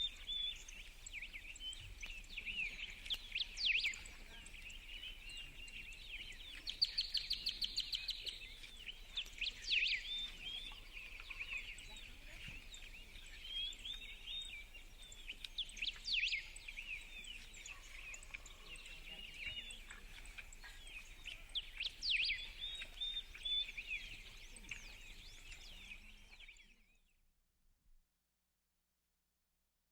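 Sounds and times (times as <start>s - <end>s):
birds chirping in a dawn chorus: 0.0s - 26.9s.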